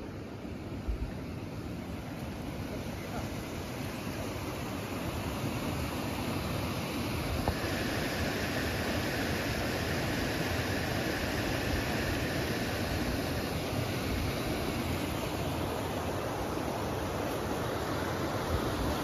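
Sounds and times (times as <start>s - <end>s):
stream rushing over stones: 1.8s - 19.0s.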